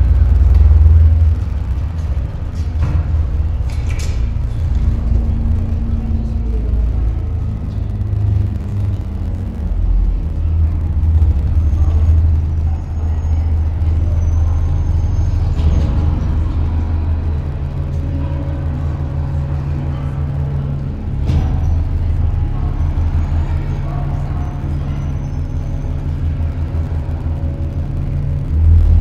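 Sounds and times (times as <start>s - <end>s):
bus engine running: 0.0s - 29.0s.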